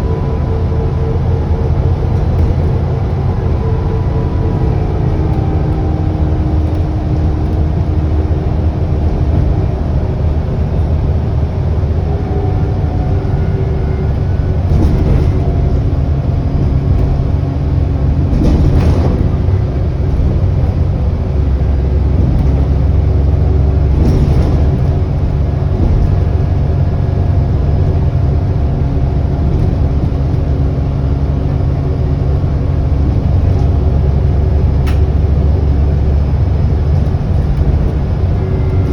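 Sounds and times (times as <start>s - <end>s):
bus engine and road rumble: 0.0s - 38.9s
whine shifting in pitch: 0.0s - 38.9s.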